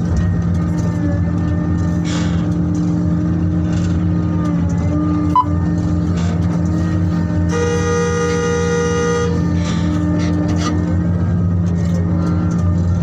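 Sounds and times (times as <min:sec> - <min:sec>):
diesel machinery engine drone: 0:00.0 - 0:13.0.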